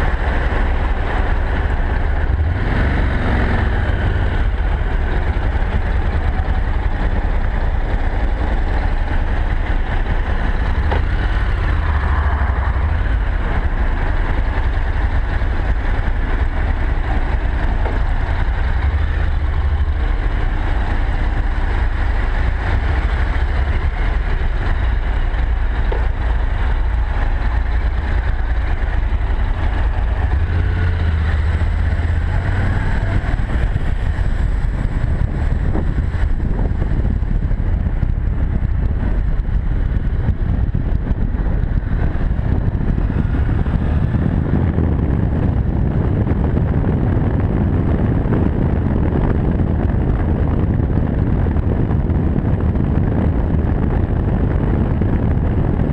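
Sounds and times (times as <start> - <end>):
motorcycle engine accelerating: 0.0 - 55.9
wind rush on microphone: 0.0 - 55.9.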